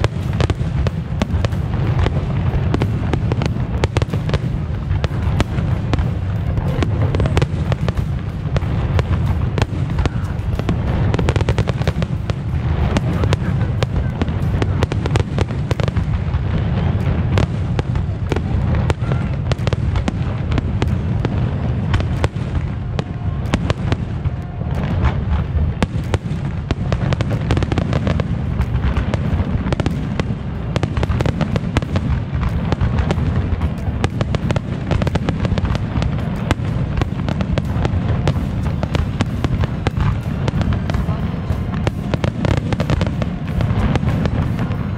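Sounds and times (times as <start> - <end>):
fireworks booming and crackling: 0.0 - 44.9
heavy low rumble: 0.0 - 44.9.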